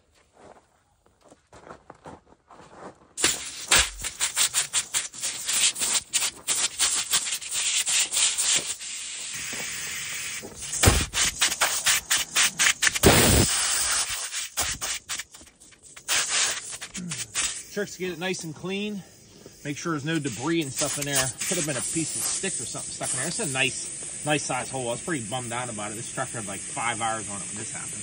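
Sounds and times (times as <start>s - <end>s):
air hissing from tire: 3.2s - 28.0s
reamer scraping tire rubber: 3.2s - 28.0s.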